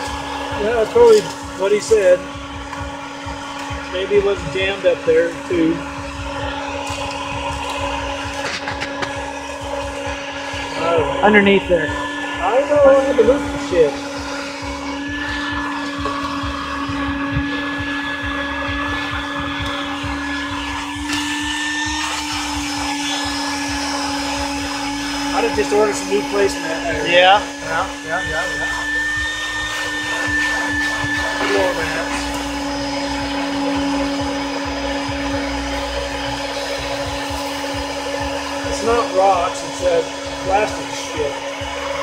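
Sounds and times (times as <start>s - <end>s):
small electric motor humming: 0.0s - 42.0s
vacuum cleaner running: 0.0s - 42.0s.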